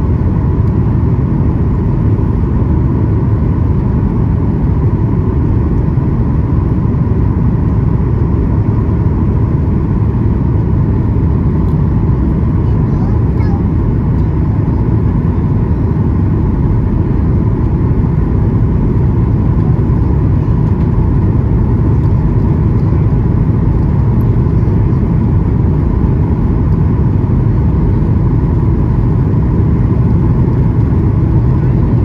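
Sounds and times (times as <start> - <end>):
airplane cabin engine drone: 0.0 - 32.0
faint steady whine: 0.0 - 32.0.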